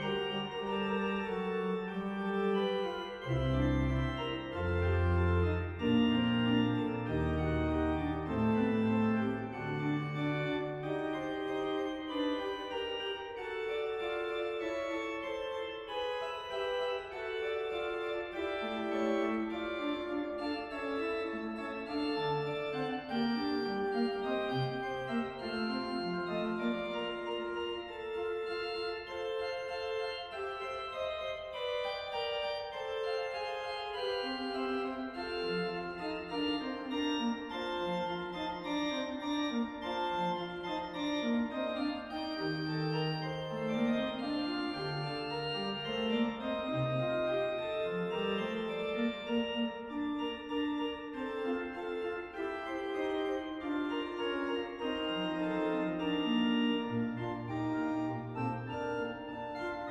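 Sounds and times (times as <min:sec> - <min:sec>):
pipe organ fugue: 0:00.0 - 0:59.9.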